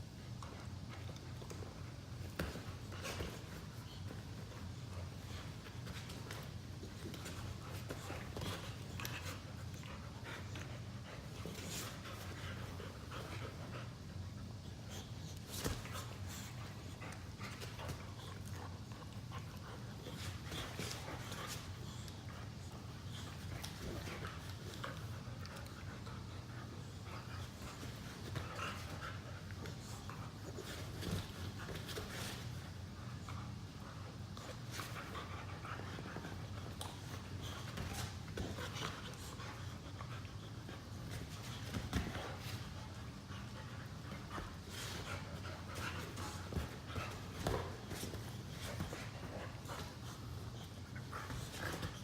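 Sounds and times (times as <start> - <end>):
dogs play-wrestling: 0.0 - 52.0
steady low hum: 0.0 - 52.0.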